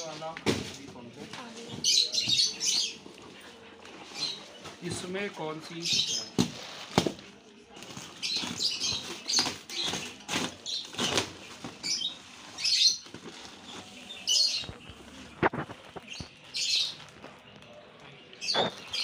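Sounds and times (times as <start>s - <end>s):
small birds chirping: 0.0s - 7.0s, 7.6s - 19.0s
plastic bags rustling and crinkling: 0.0s - 19.0s.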